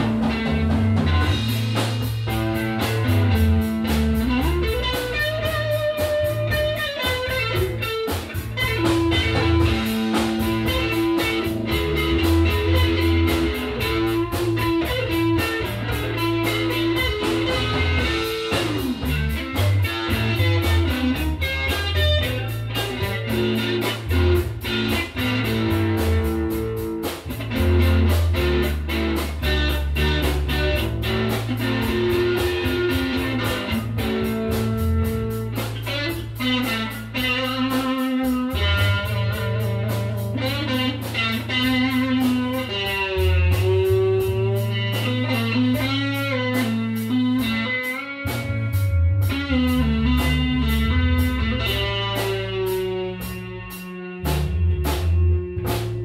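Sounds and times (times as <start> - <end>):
drum kit steady beat: 0.0 - 56.0
electric bass low notes: 0.0 - 56.0
electric guitar lead line: 0.0 - 56.0.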